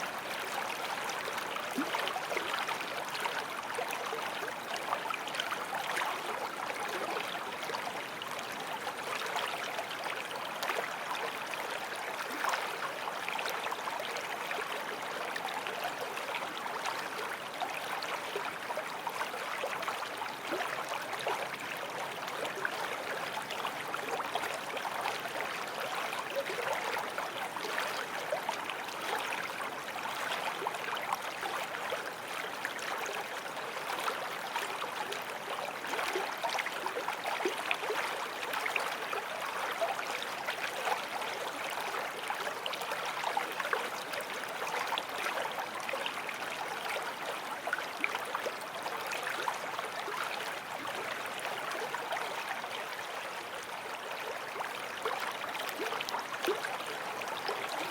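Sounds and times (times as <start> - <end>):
stream babbling over stones: 0.0 - 57.9.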